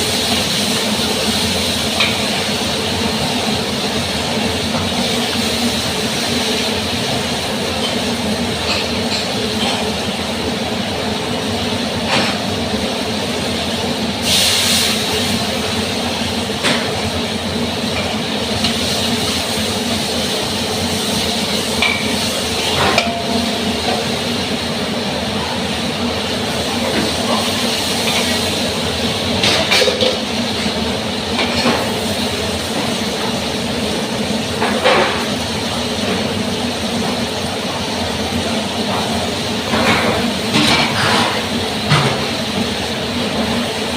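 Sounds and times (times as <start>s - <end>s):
stir-fry rushing noise: 0.0s - 43.9s.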